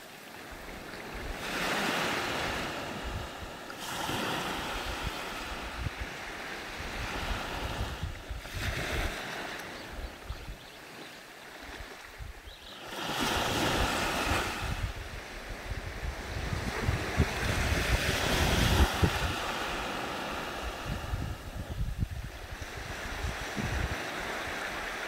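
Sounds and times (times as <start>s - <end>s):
waves washing up a beach: 0.0s - 25.0s.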